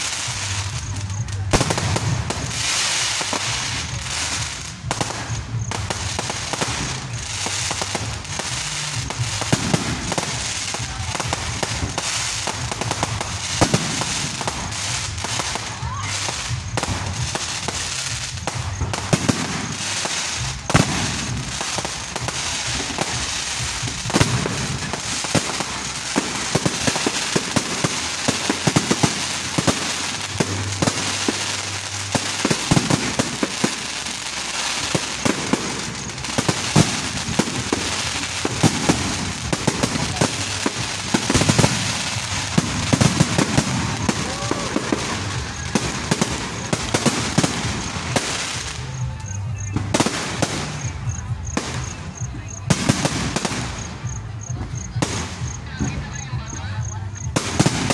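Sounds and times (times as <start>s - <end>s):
fireworks bangs: 0.0s - 57.9s
fireworks crackling: 0.0s - 57.9s.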